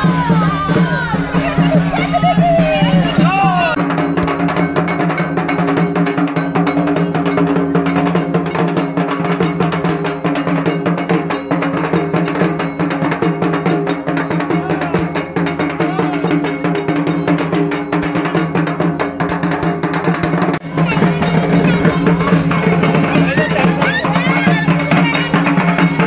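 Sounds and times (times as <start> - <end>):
drums beaten with sticks: 0.0 - 26.0.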